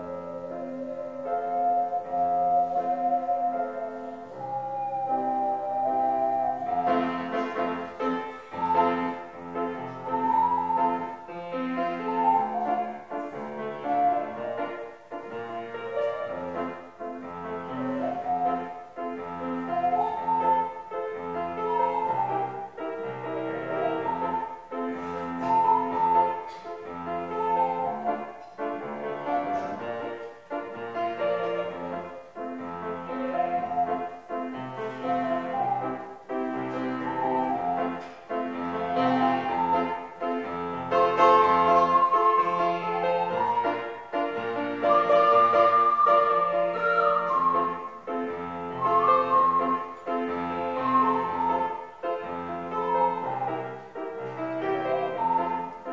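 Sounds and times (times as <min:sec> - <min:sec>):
keyboard accompaniment: 0:00.0 - 0:55.9
ocarinas playing hymn melody: 0:00.0 - 0:55.9.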